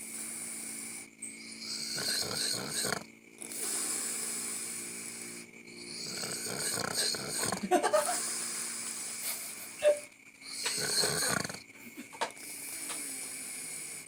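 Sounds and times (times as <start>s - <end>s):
person snoring: 0.0s - 11.7s, 12.3s - 14.0s
pitched snorts: 0.0s - 14.0s.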